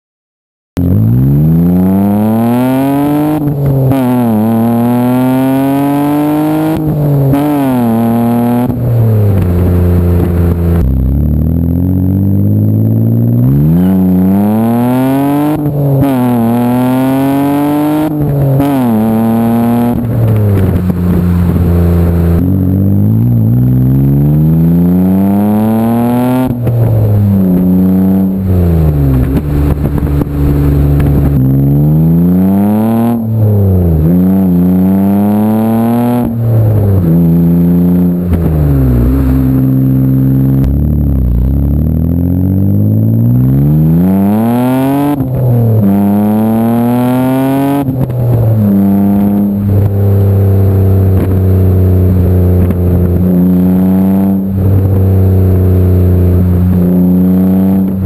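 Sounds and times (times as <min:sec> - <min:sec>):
car exhaust accelerating: 0:00.8 - 0:58.0.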